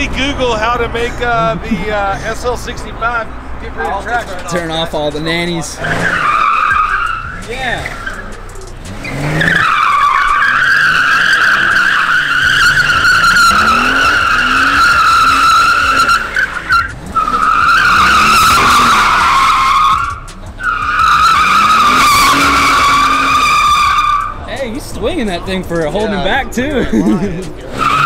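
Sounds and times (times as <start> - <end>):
car engine revving: 0.0 - 28.0
tyres squealing: 3.7 - 28.0.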